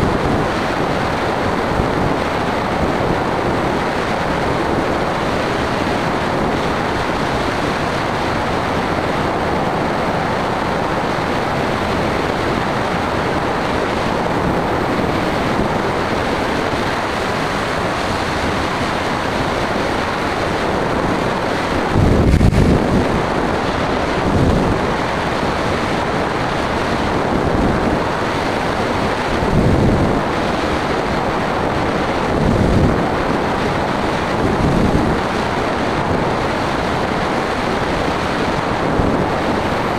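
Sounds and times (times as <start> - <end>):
low wind buffets: 0.0 - 39.9
wind rushing over microphone: 0.0 - 39.9.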